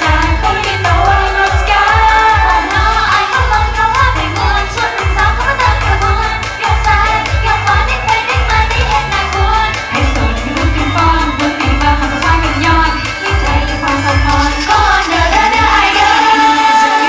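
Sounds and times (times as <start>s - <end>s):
steady kick-drum beat: 0.0s - 16.8s
woman singing pop song: 0.0s - 17.0s.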